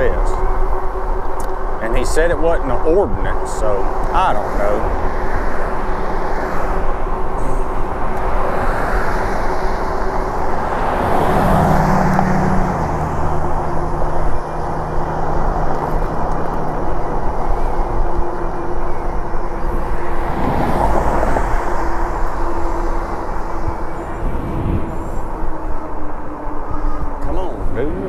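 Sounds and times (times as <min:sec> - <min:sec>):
low steady hum: 0:00.0 - 0:28.0
road noise: 0:00.0 - 0:28.0
wind buffeting microphone: 0:00.0 - 0:28.0.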